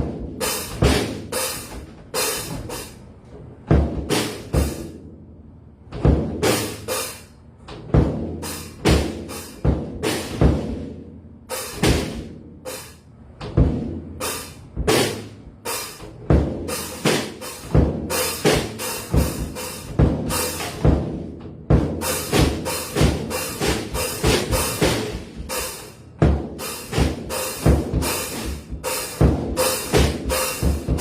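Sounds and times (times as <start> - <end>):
snare and bass drum hits: 0.0 - 2.9, 3.7 - 5.0, 6.0 - 7.2, 7.9 - 10.9, 11.6 - 12.9, 13.5 - 31.0.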